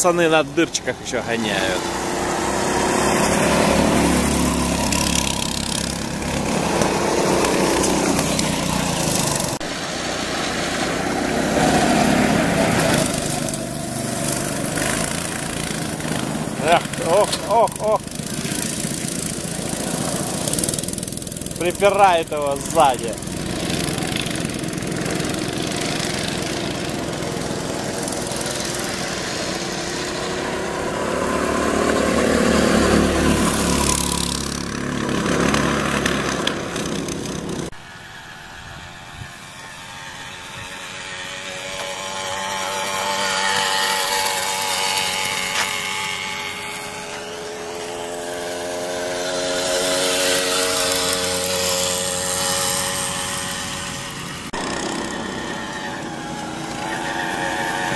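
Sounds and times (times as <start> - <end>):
go-kart engines revving: 0.0 - 57.9
moped engine passing by: 0.0 - 57.9.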